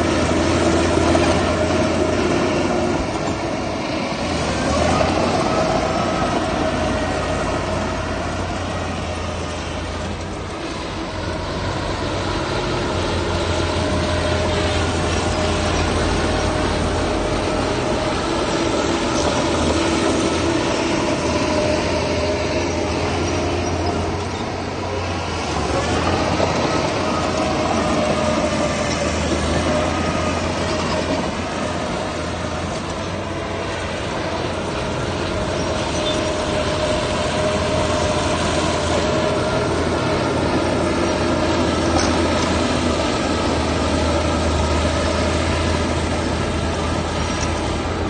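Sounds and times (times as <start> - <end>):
diesel machinery engine rumble: 0.0 - 48.0.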